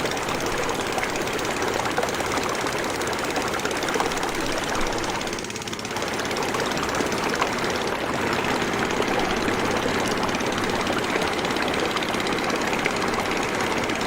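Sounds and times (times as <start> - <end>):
motorboat engine chugging: 0.0 - 14.0.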